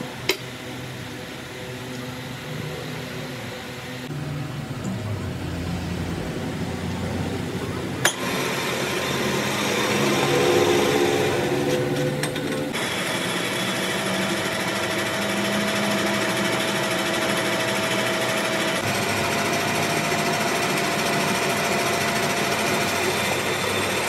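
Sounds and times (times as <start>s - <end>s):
metal lathe motor hum: 0.0s - 24.0s.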